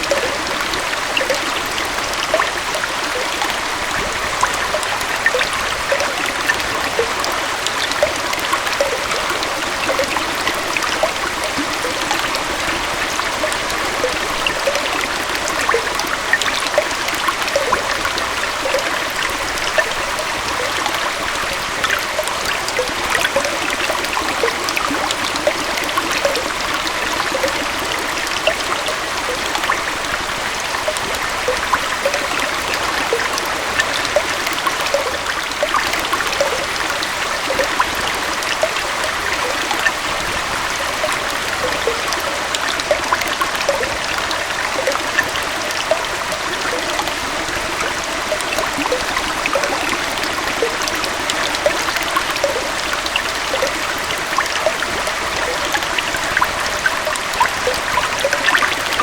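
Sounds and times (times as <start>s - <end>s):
water splashes and trickles: 0.0s - 59.0s.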